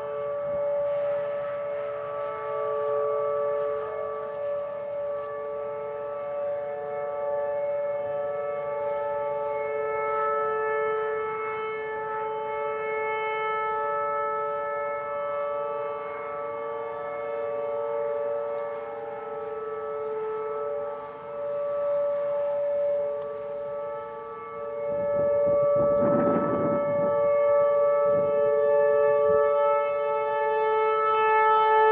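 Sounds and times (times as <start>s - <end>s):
warning siren two-note chord: 0.0s - 31.9s.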